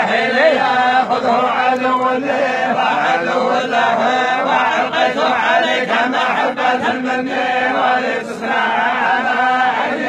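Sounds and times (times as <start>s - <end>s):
men reciting in unison: 0.0s - 10.0s.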